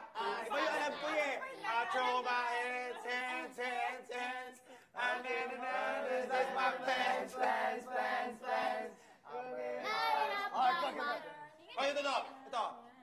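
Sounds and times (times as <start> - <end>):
group singing without instruments: 0.0 - 11.6.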